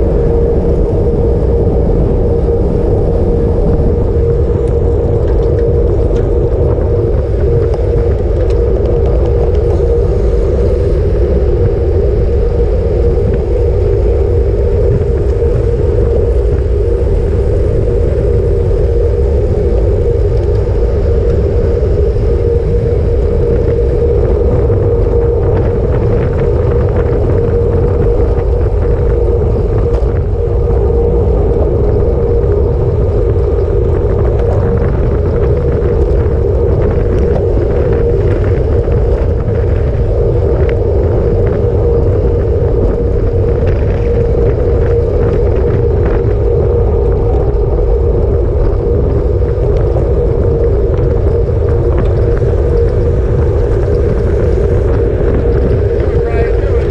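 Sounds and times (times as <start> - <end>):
steady drone: 0.0 - 56.9
wind rumble on microphone: 0.0 - 56.9.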